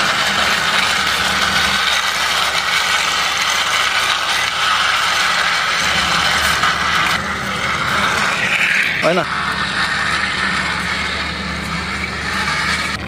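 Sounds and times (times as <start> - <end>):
toy wheels rolling on concrete: 0.0 - 13.0.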